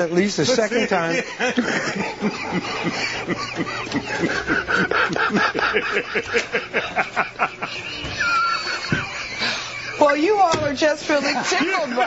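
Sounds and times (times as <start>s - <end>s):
people laughing hard: 0.0s - 12.0s.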